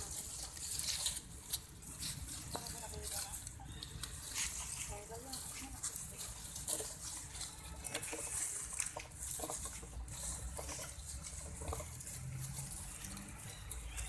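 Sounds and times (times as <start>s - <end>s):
dry leaves crackling and rustling: 0.0s - 14.0s.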